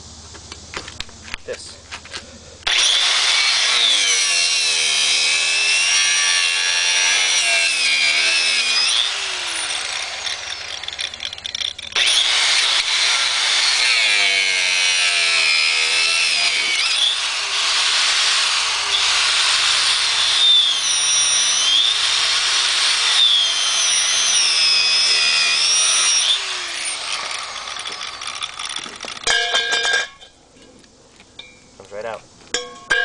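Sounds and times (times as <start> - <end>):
angle grinder cutting steel: 2.7 - 29.6.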